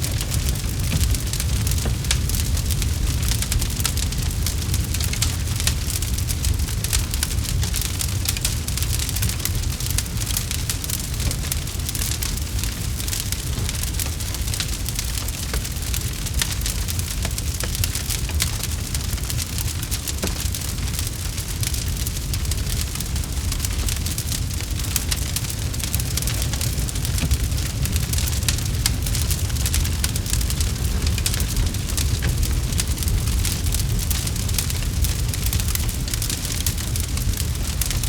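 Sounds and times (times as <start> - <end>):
campfire flames rumbling: 0.0 - 38.0
fire crackling and popping: 0.0 - 38.0.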